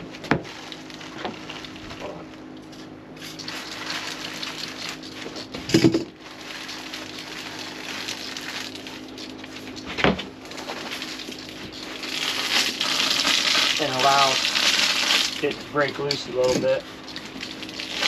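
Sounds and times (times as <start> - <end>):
foam decking tearing: 0.0 - 2.4, 3.2 - 5.6, 6.2 - 18.0.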